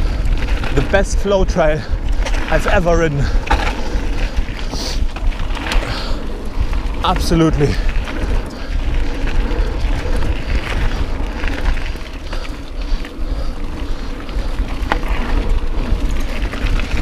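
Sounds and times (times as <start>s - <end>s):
tyres rattling on dirt trail: 0.0s - 17.0s
wind buffeting microphone: 0.0s - 17.0s.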